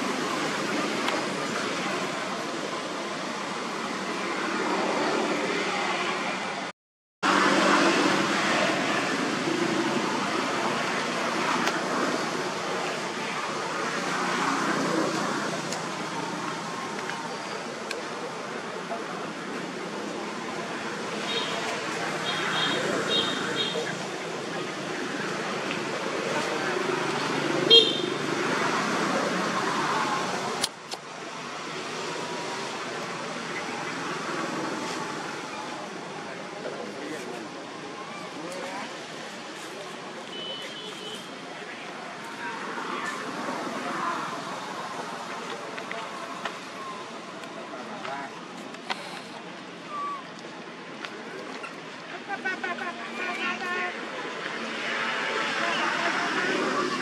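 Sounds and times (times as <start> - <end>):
rushing outdoor background noise: 0.0 - 57.0.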